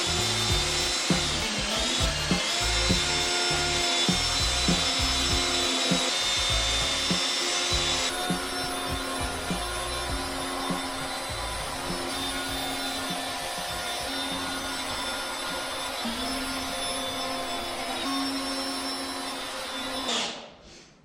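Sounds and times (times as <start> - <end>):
circular saw cutting a board: 0.0 - 20.5.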